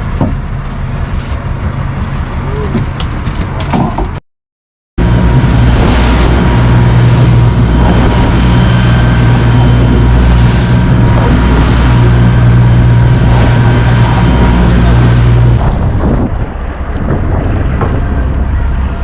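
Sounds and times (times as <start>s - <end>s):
boat engine running: 0.0s - 4.2s, 5.0s - 19.0s.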